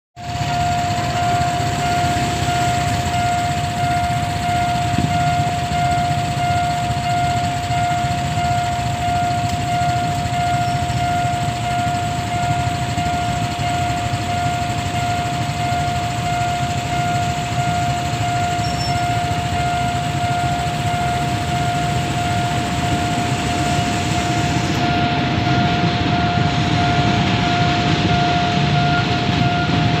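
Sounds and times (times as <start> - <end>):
idling traffic hum: 0.2 - 30.0
level crossing alarm: 0.2 - 30.0
train passing: 0.2 - 30.0.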